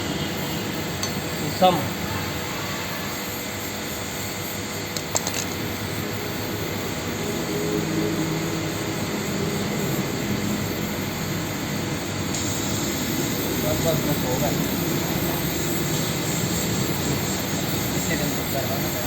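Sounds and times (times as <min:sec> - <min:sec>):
blowtorch flame roaring: 0:00.0 - 0:19.0.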